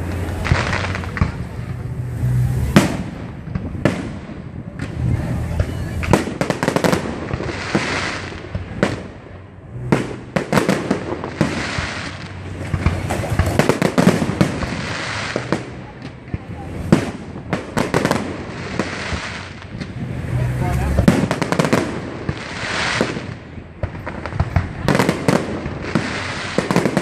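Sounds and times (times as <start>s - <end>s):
firework bangs and booms: 0.0s - 27.0s
firework crackling: 0.0s - 27.0s.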